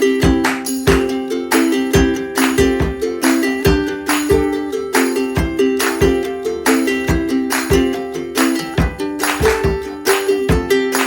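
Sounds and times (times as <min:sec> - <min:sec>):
plucked string tune over beat: 0:00.0 - 0:11.0.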